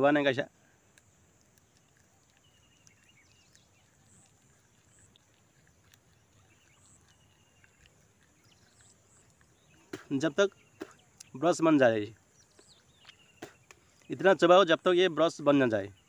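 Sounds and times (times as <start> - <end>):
faint thin bird calls: 0.9 - 14.2.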